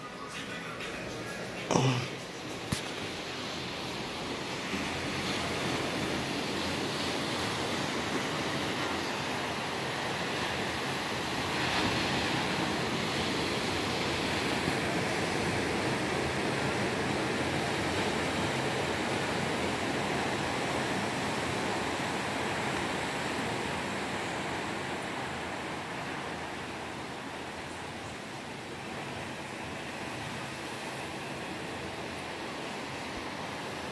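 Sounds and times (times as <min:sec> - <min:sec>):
sea surf breaking on shore: 0:00.7 - 0:33.9.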